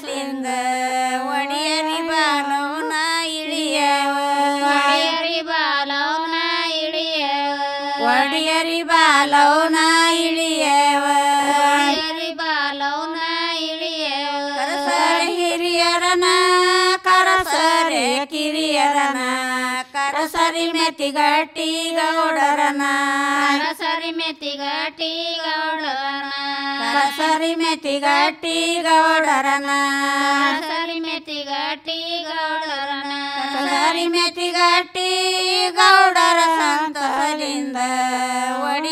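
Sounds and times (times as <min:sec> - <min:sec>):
women singing unaccompanied: 0:00.0 - 0:38.9.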